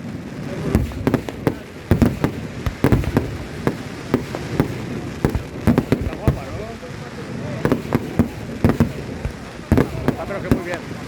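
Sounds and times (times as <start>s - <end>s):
fireworks bangs: 0.0s - 11.0s
low rumble of bursts: 0.1s - 11.0s.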